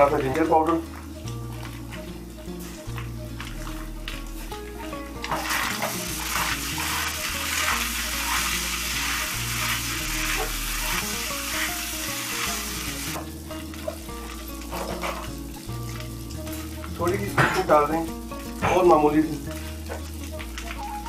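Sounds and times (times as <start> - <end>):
meat sizzling in a pan: 0.0 - 21.0
wooden spoon scraping a pan: 0.2 - 17.0.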